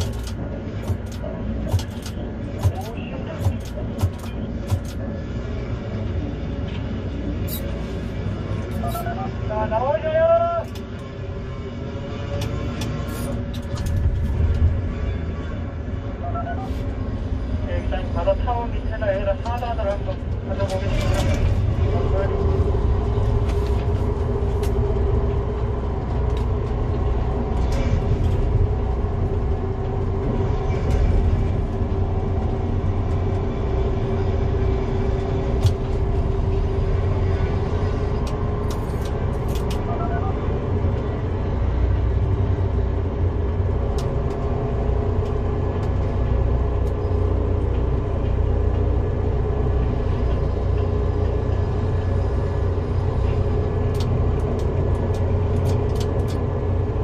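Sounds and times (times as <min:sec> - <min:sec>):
low rumble of wind: 0:00.0 - 0:57.0
crane motor whine: 0:10.7 - 0:57.0.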